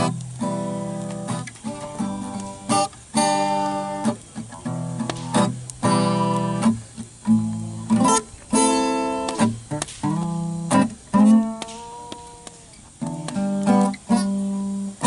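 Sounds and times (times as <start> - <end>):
acoustic guitar strummed chords: 0.0 - 15.0.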